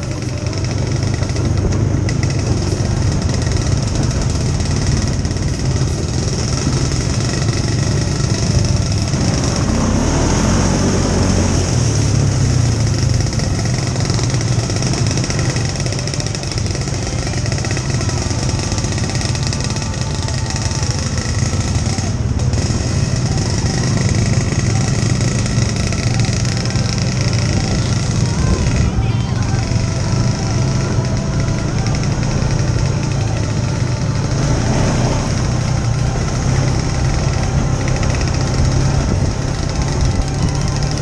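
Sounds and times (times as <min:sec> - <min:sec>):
quad bike engine running: 0:00.0 - 0:41.0.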